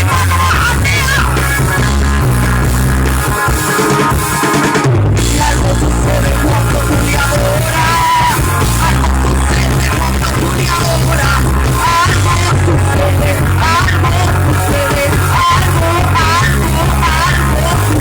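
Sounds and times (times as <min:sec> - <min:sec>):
bass: 0:00.0 - 0:18.0
drums: 0:00.0 - 0:18.0
electric guitar: 0:00.0 - 0:18.0
worship band music: 0:00.0 - 0:18.0.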